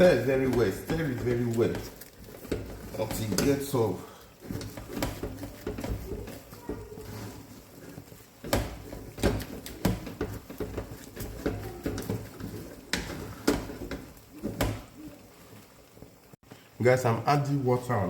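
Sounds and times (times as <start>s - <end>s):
stirrer knocking and scraping pot: 0.0s - 16.5s.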